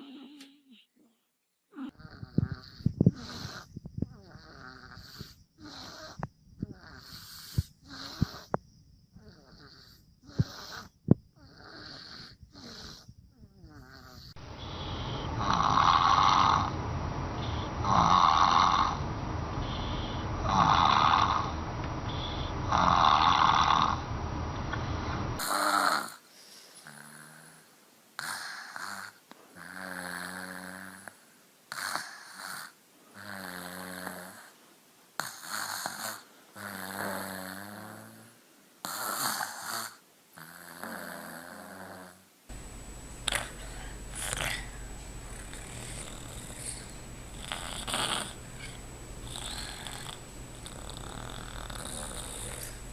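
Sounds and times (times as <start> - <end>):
person snoring: 1.8 - 8.6, 9.2 - 16.8, 17.4 - 24.0, 25.4 - 34.5, 35.2 - 42.2, 43.2 - 52.9.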